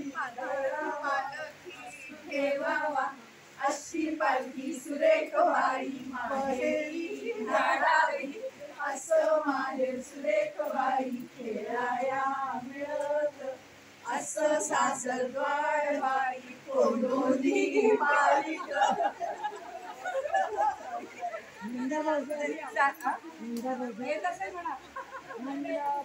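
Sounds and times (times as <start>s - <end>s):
women singing folk song: 0.0s - 24.6s.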